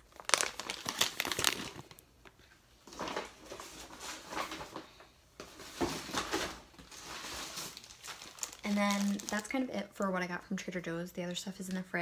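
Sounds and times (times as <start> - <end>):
groceries rustling: 0.0 - 10.3.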